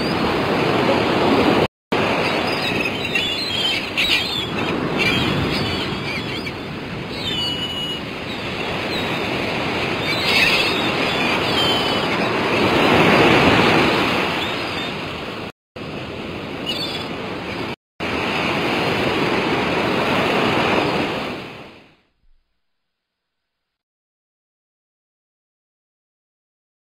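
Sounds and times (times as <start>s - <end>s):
sea surf washing in: 0.0s - 21.9s.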